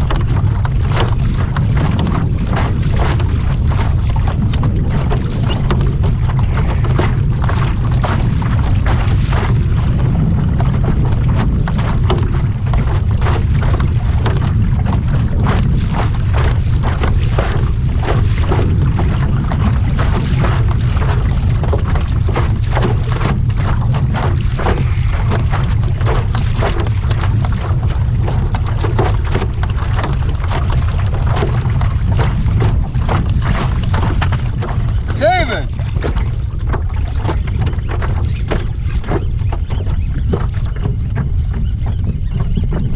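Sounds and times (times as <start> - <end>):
small water splashes: 0.0 - 42.9
wind buffeting microphone: 0.0 - 42.9.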